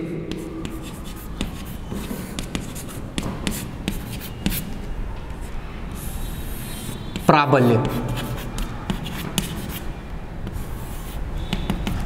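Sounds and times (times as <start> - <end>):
chalk scratching on chalkboard: 0.3 - 4.8, 5.4 - 12.0.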